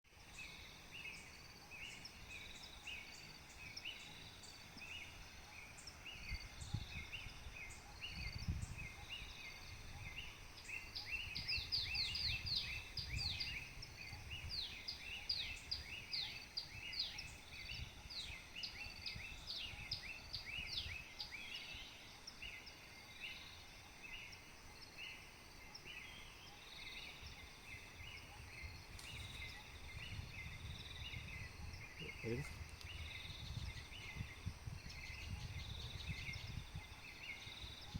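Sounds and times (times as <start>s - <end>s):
birds chirping: 0.1s - 37.9s.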